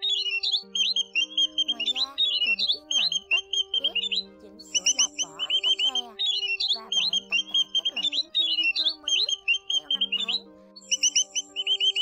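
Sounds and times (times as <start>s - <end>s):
birds chattering: 0.0s - 12.0s
lower sliding bird notes: 0.0s - 12.0s.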